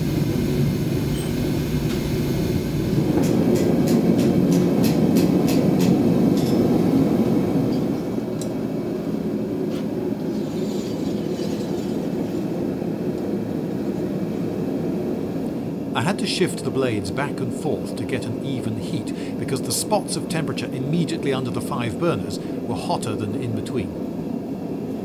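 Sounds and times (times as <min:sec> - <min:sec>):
gas forge rushing: 0:00.0 - 0:25.0.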